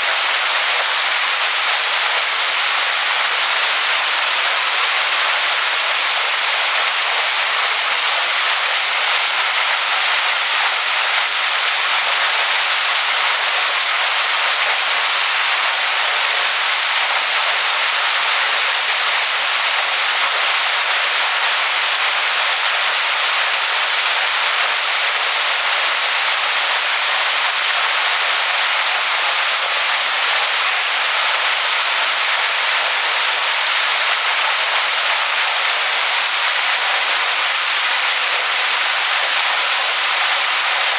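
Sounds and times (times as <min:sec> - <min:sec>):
waterfall splashing onto rocks: 0:00.0 - 0:40.9.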